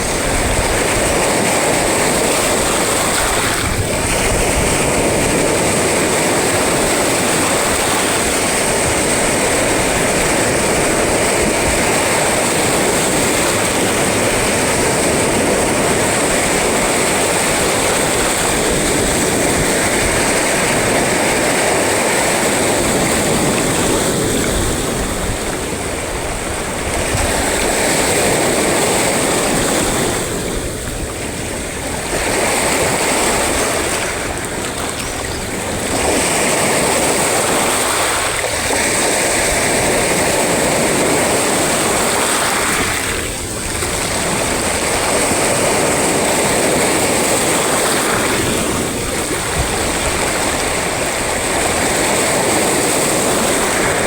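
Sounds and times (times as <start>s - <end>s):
sea surf breaking: 0.0s - 54.0s.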